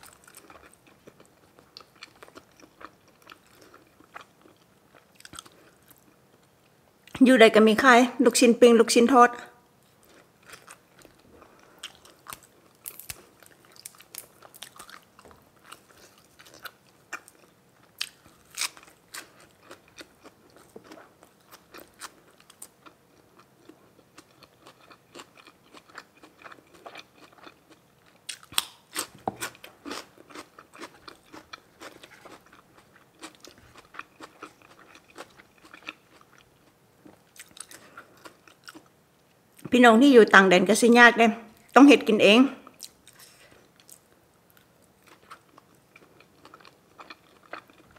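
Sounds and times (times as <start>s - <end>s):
person chewing and crunching food: 0.0s - 6.8s, 9.8s - 39.6s, 42.7s - 47.9s.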